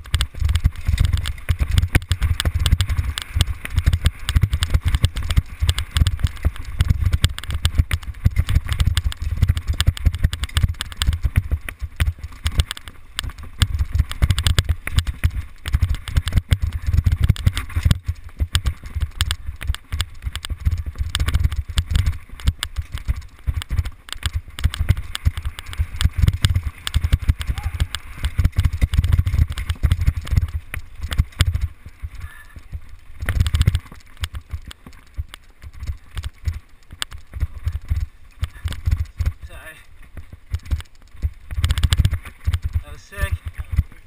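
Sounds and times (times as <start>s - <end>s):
bike rattling and knocking: 0.0s - 44.0s
wind rumble on microphone: 0.0s - 44.0s.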